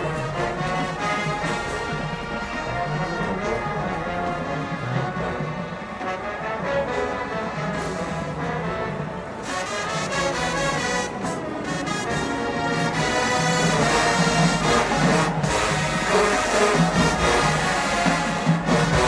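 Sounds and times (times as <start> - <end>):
brass horns playing tune: 0.0 - 19.0
low brass bass line: 0.0 - 19.0.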